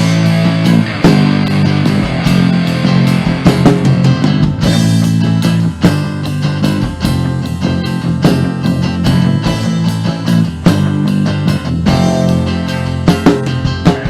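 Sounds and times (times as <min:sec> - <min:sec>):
bass guitar: 0:00.0 - 0:14.0
drums keeping a steady beat: 0:00.0 - 0:14.0
electric guitar: 0:00.0 - 0:14.0.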